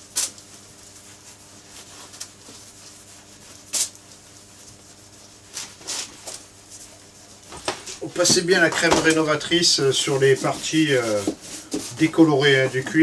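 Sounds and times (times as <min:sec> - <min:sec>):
gloved fingers rubbing leather: 0:00.7 - 0:13.0.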